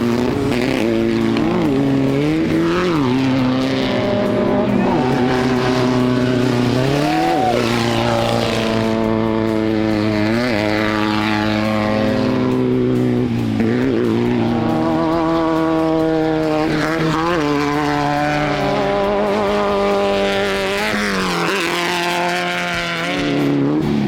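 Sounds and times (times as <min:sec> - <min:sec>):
engine running at high revs: 0:00.0 - 0:24.0.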